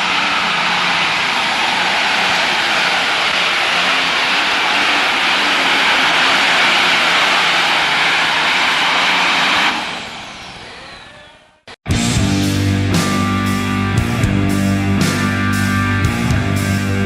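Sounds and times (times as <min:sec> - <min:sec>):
diesel tractor engine at full throttle: 0:00.0 - 0:10.7, 0:12.0 - 0:17.0.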